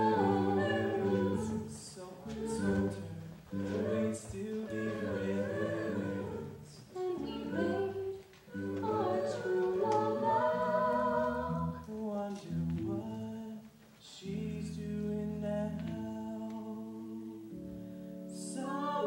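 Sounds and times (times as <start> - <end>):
man and woman singing a duet: 0.0 - 17.6, 18.3 - 19.0
sustained musical accompaniment: 0.0 - 19.0.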